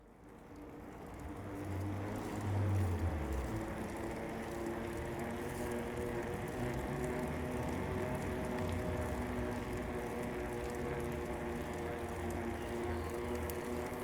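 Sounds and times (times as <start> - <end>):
droning mechanical hum: 0.6 - 14.0.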